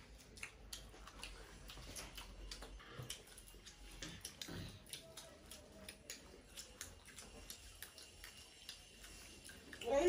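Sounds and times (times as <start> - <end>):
people chewing and lip-smacking: 0.0 - 10.0.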